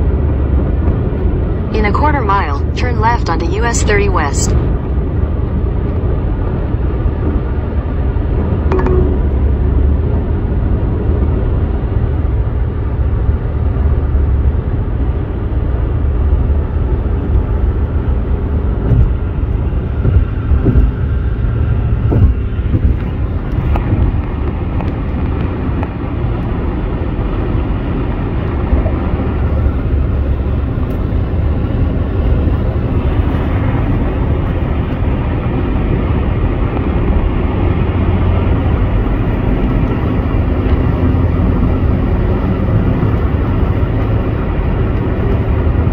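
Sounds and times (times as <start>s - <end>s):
tyre and wind rumble inside car: 0.0s - 2.1s, 4.5s - 8.7s, 9.5s - 45.9s.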